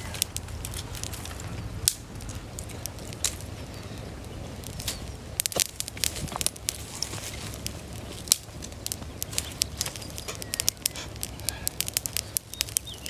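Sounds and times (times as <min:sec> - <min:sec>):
campfire crackling: 0:00.0 - 0:13.0
fire pops and snaps: 0:00.0 - 0:13.0
low steady fire rumble: 0:00.0 - 0:13.0.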